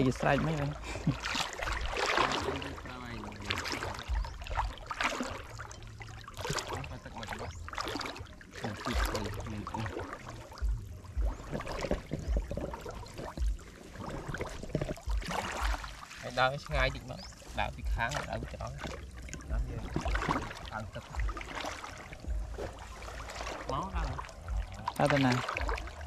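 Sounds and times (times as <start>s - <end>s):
low bumps: 0.0s - 16.0s, 16.6s - 26.0s
water sloshing and splashing: 0.0s - 26.0s.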